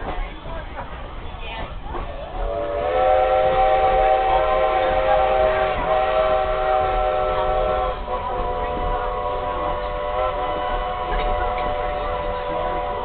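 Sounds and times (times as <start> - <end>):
steam locomotive chime whistle: 2.4 - 13.0.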